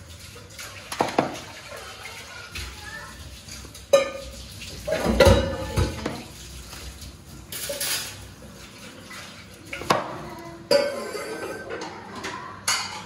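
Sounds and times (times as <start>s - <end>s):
metal utensils and dishes clattering: 0.0s - 13.0s.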